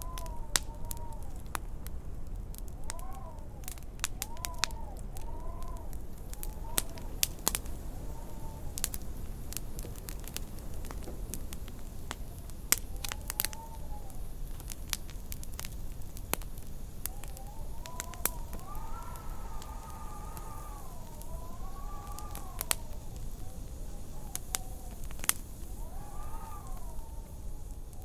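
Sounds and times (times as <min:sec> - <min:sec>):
wind rumbling and howling: 0:00.0 - 0:28.0
wood fire crackling and popping: 0:00.0 - 0:28.0.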